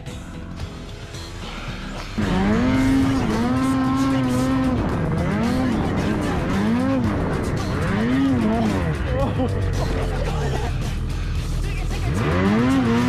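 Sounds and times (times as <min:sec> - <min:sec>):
snowmobile engine revving: 0:02.2 - 0:13.0.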